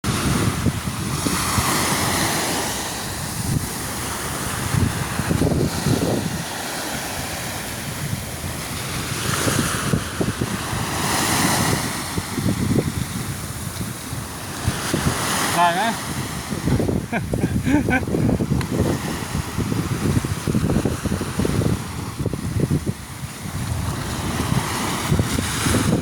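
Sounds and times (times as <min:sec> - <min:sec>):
sea waves washing onto shore: 0:00.0 - 0:26.0
wind buffeting microphone: 0:00.0 - 0:26.0.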